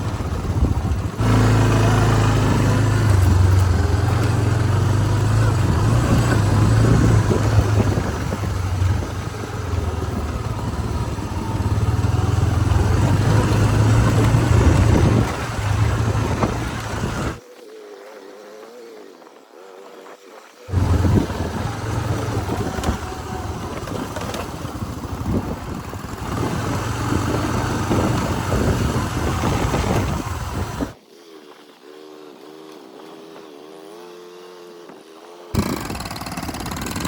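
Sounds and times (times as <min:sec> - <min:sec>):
off-road vehicle engine running: 0:00.0 - 0:17.4, 0:20.7 - 0:31.0, 0:31.8 - 0:37.0.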